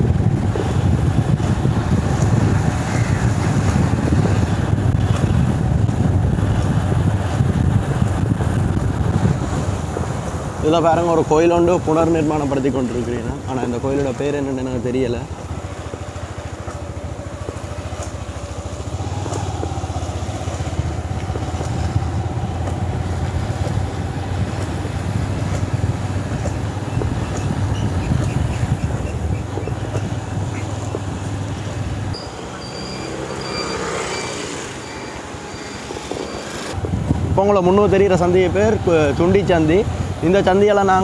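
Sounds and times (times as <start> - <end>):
motorcycle engine running: 0.0 - 12.6, 13.4 - 41.0.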